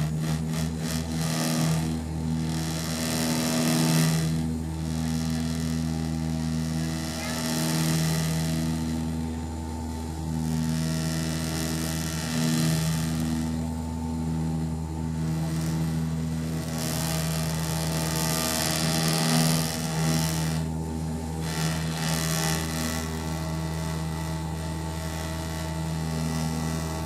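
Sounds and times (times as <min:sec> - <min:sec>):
propeller engine drone: 0:00.0 - 0:27.0.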